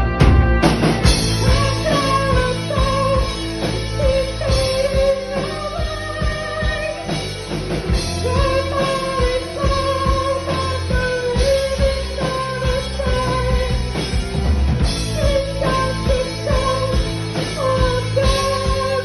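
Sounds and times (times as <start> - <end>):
heavy drum hits: 0.0 - 19.0
rock band playing: 0.0 - 19.0
person singing: 1.2 - 19.0.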